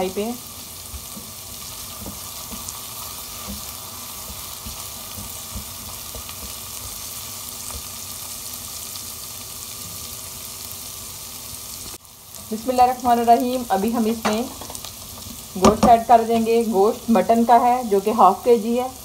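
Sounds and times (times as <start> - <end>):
paste sizzling in oil: 0.0 - 19.0.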